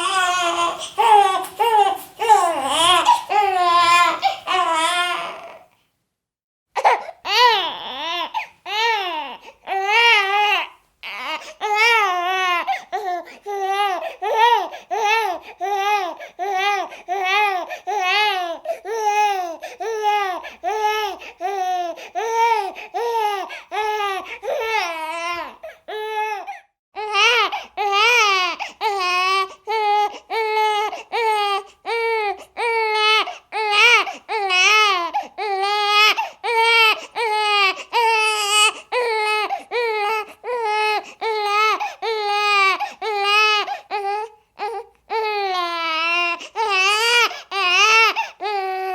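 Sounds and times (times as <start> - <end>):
baby crying: 0.0 - 5.7, 6.8 - 48.9.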